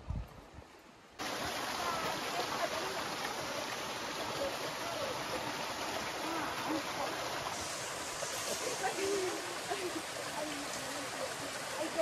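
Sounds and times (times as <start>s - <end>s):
stream running down rock: 1.2s - 12.0s.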